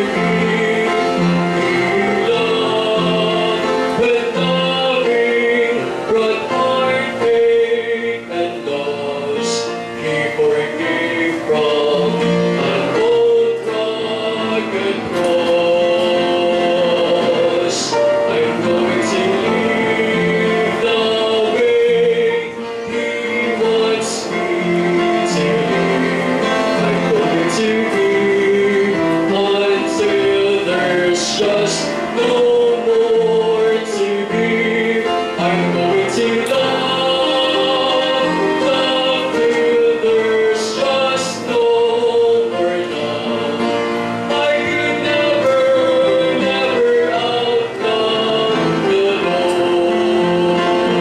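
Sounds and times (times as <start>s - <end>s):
instrumental accompaniment: 0.0s - 51.0s
man singing into microphone: 0.0s - 51.0s.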